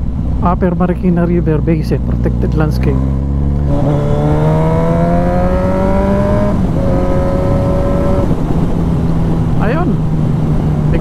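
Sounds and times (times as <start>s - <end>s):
low wind rumble: 0.0s - 11.0s
motorcycle engine accelerating: 0.0s - 11.0s.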